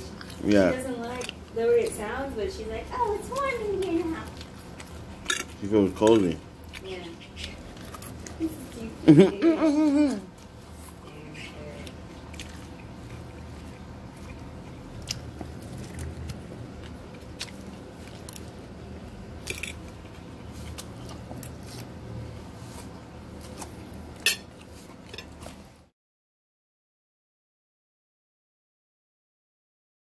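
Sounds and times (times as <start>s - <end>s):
chewing salad: 0.0s - 25.9s
steady low hum: 0.0s - 25.9s.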